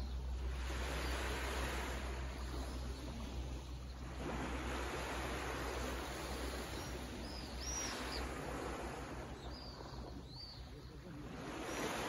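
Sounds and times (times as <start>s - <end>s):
small waves lapping on beach: 0.0s - 12.0s.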